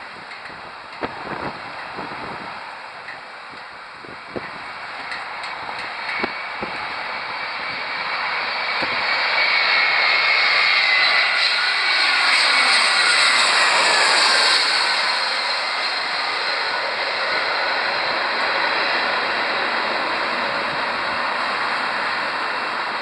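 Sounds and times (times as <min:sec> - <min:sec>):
high engine whine: 0:00.0 - 0:23.0
jet airliner passing overhead: 0:00.0 - 0:23.0.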